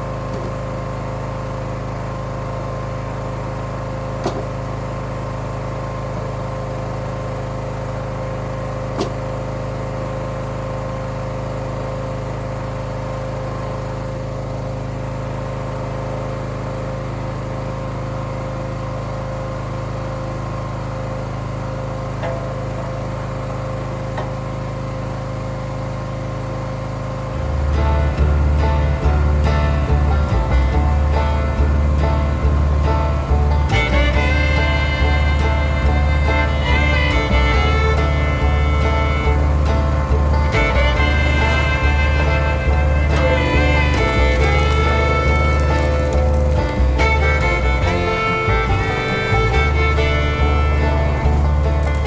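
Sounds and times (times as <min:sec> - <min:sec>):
small gasoline engine running: 0:00.0 - 0:52.0.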